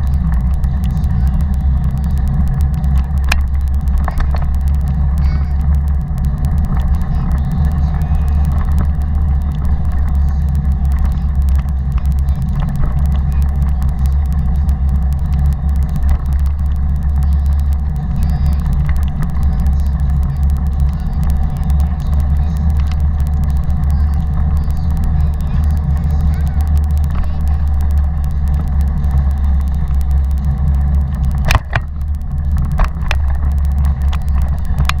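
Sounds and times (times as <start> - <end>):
bike tyres rumbling on pavement: 0.0 - 35.0.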